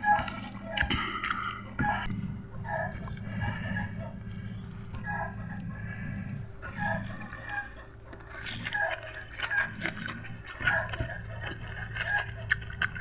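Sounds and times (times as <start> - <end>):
mouth chewing and biting food: 0.0 - 13.0
steady low hum: 0.0 - 13.0.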